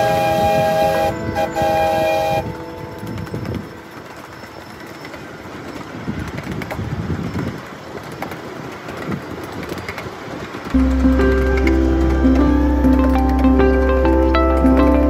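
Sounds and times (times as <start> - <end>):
miniature train rumble: 0.0 - 15.0
wheels clacking on rails: 0.0 - 15.0.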